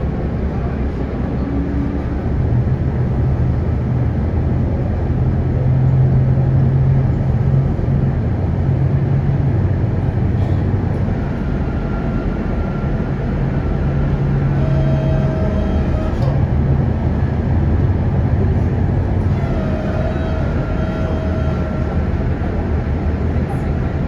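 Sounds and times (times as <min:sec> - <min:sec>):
constant low hum: 0:00.0 - 0:24.0
tram wheels rumbling on rails: 0:00.0 - 0:24.0.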